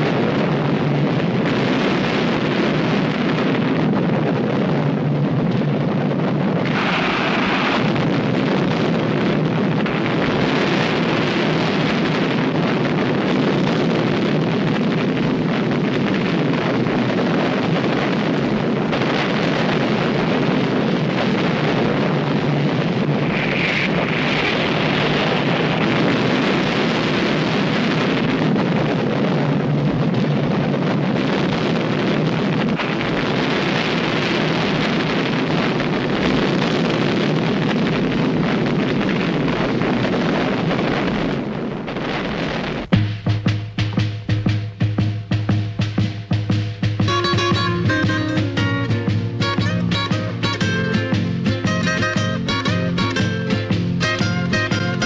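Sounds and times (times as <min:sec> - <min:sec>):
loud rushing rumble: 0:00.0 - 0:55.0.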